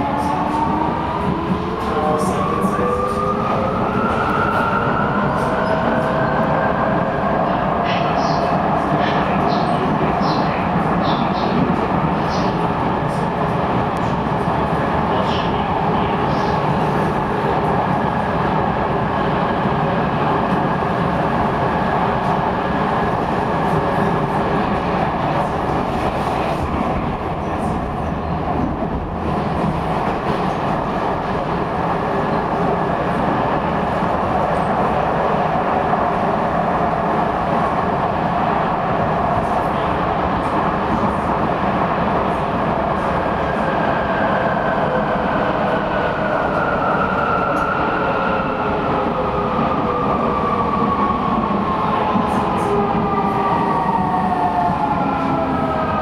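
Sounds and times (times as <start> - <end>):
train rumbling in tunnel: 0.0 - 56.0.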